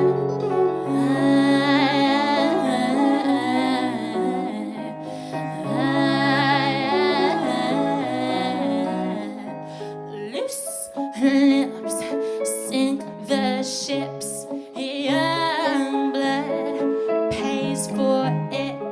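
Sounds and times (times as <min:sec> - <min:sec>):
keyboard chords: 0:00.0 - 0:18.9
woman singing wordless melody: 0:00.8 - 0:18.9.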